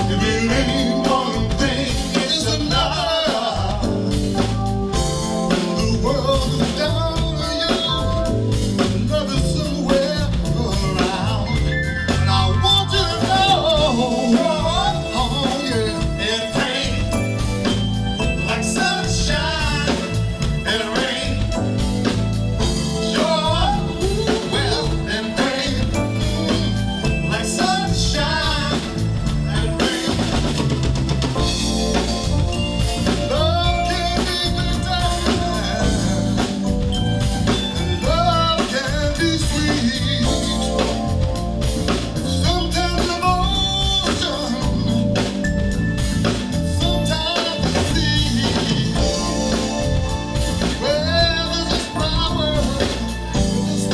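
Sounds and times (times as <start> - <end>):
drum kit beat: 0.0 - 53.9
live soul band music: 0.0 - 53.9.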